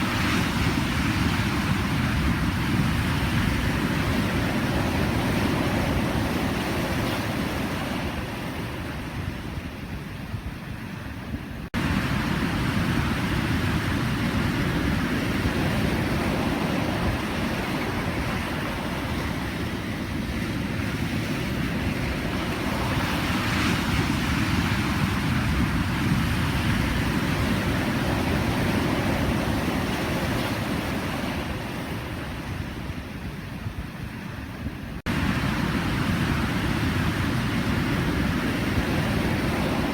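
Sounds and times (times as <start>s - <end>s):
waves breaking: 0.0s - 9.8s, 11.6s - 39.9s.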